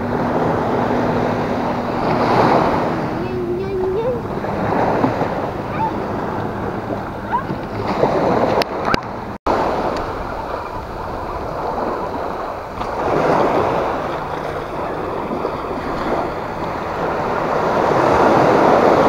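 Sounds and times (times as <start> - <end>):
sea waves washing on beach: 0.0 - 19.0.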